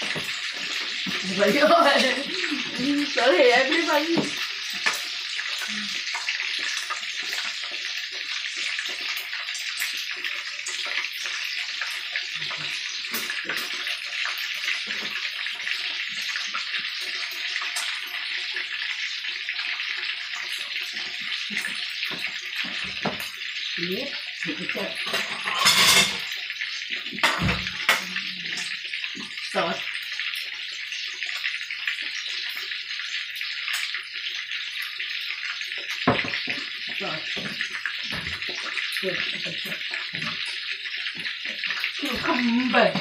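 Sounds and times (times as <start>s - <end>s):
meatballs deep-frying in oil: 0.0s - 43.0s.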